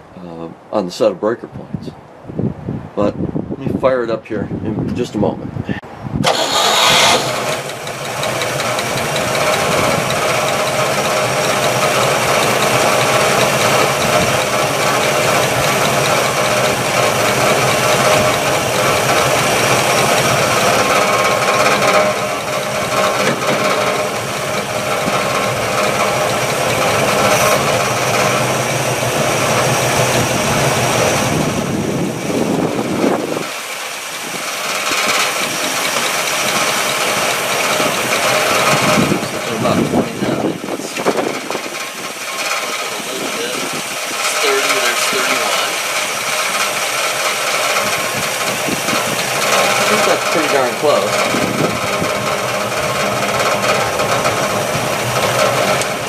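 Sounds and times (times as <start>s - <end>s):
car engine idling: 6.2s - 56.0s.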